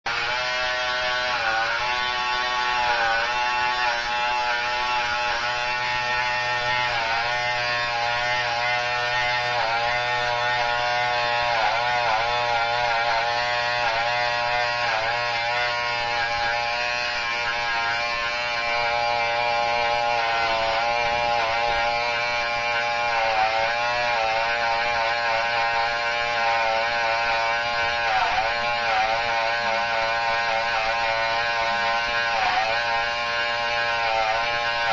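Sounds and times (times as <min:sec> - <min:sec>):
electric hair trimmer buzzing: 0:00.1 - 0:34.9.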